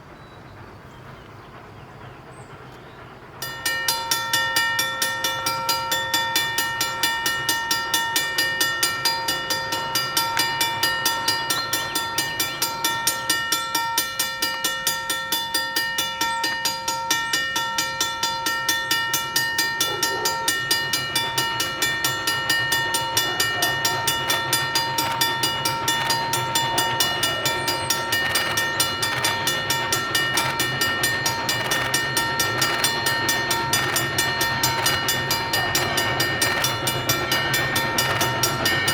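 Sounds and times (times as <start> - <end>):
steam locomotive chuffing: 0.0 - 38.9
steady ringing tone: 3.4 - 38.9.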